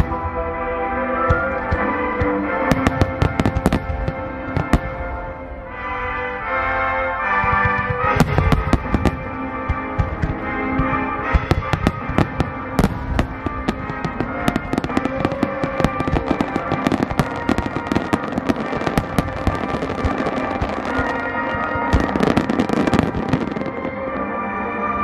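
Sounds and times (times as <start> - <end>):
fireworks bangs and crackles: 0.0 - 5.9, 7.2 - 25.0
music playing: 0.0 - 25.0.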